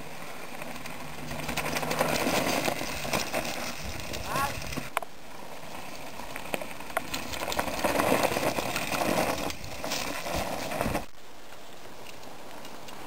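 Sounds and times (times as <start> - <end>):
bike tyres rolling on dirt trail: 0.0 - 13.0.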